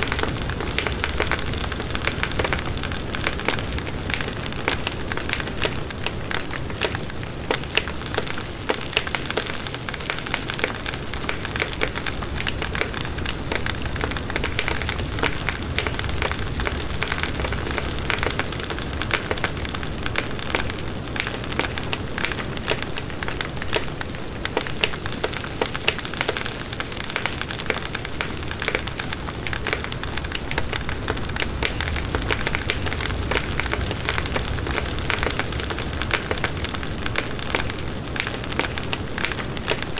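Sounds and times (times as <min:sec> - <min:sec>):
bonfire crackling: 0:00.0 - 0:39.9
low rumble of flames: 0:00.0 - 0:39.9.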